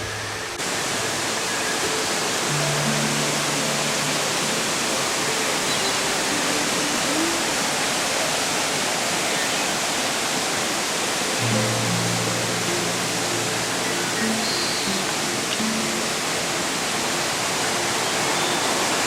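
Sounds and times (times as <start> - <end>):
soft background music: 0.0 - 7.8, 11.3 - 19.0
waterfall rushing: 0.0 - 19.0.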